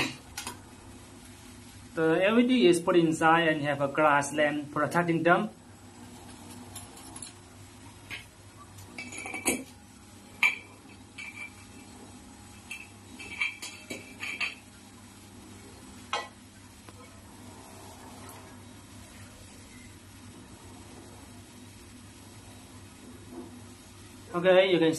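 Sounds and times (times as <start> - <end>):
faint steady background noise: 0.0 - 24.9.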